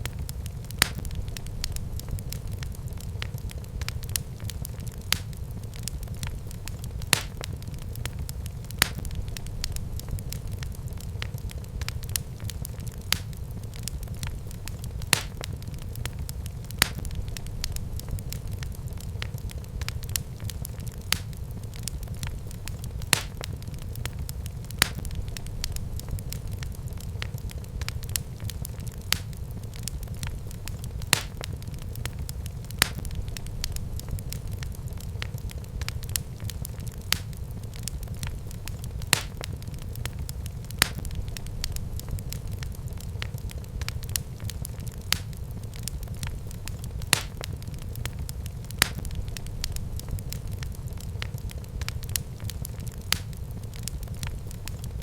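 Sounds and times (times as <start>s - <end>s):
fire pops: 0.0s - 55.0s
fireplace fire crackling: 0.0s - 55.0s.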